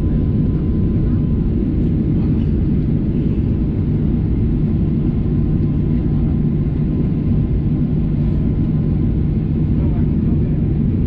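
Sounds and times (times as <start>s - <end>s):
airplane cabin low rumble: 0.0s - 11.0s.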